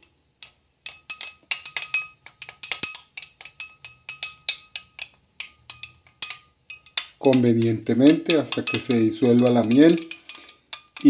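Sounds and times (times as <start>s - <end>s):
spoon clinking in glass: 0.9s - 11.0s.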